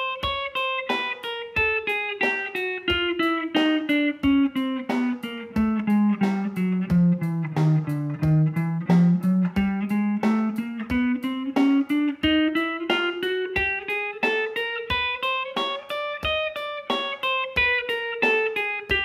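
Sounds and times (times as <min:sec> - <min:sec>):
electric guitar playing scale: 0:00.0 - 0:19.0.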